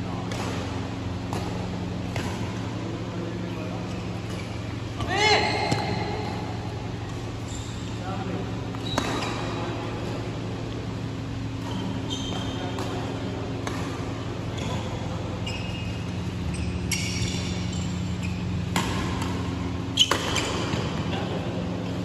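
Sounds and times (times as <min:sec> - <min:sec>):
steady low hum: 0:00.0 - 0:22.0
rackets hitting shuttlecock: 0:00.1 - 0:07.5, 0:08.7 - 0:15.4, 0:16.1 - 0:22.0.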